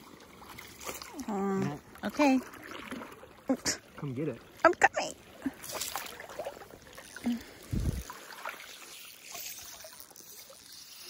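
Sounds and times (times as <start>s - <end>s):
water sloshing around wading legs: 0.0s - 11.0s.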